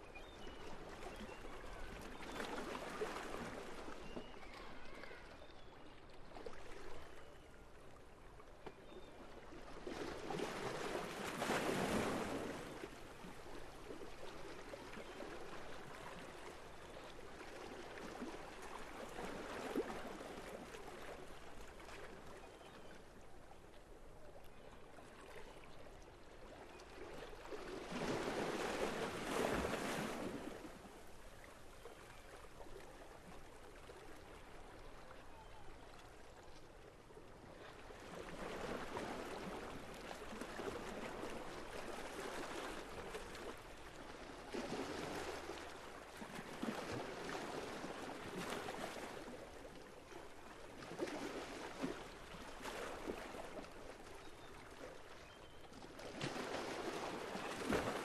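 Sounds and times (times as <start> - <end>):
seawater lapping: 0.5 - 58.0.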